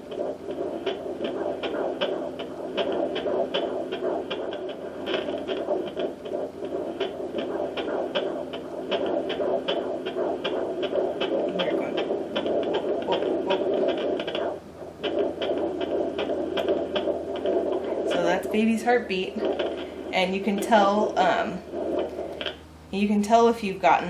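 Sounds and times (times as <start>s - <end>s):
doppler hiss: 0.0s - 24.0s
fetal heartbeat pulse: 0.0s - 24.0s.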